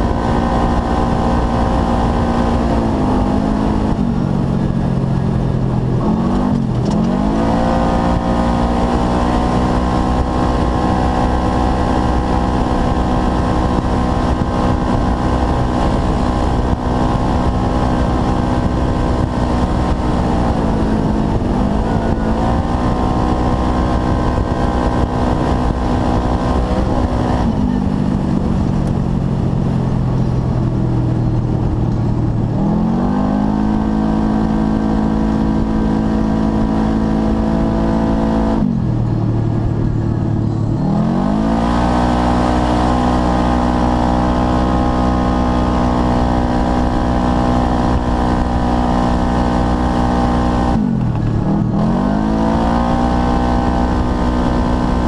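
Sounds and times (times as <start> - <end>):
engine revving loud: 0.0 - 29.0, 31.9 - 39.1, 39.9 - 55.0.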